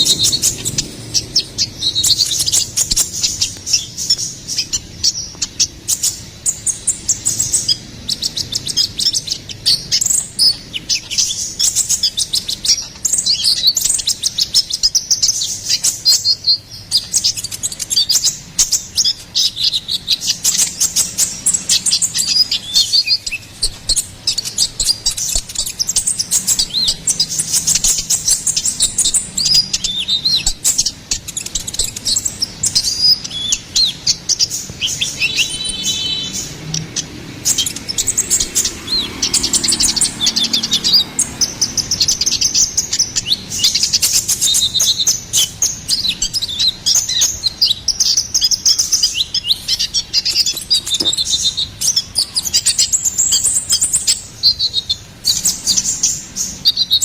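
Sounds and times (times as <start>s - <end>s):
sunbird twittering song: 0.0s - 57.0s.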